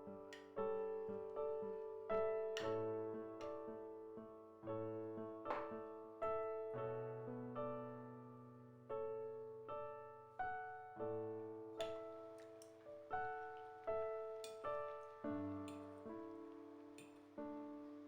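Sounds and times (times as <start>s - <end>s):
slow solo piano melody: 0.0s - 18.0s.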